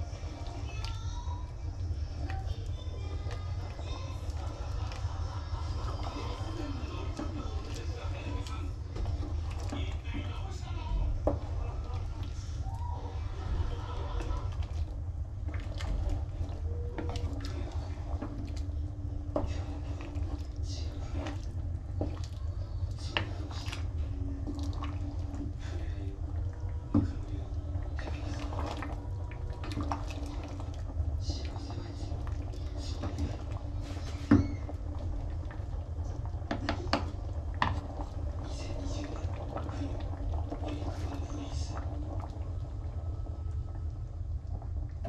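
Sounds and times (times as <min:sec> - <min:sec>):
liquid sloshing and dripping: 0:00.0 - 0:45.0
low steady hum: 0:00.0 - 0:45.0.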